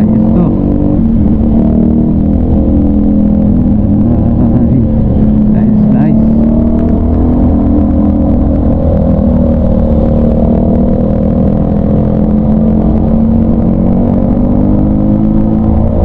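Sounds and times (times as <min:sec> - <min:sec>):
low rumble: 0:00.0 - 0:16.0
motorcycle engine accelerating: 0:00.0 - 0:16.0.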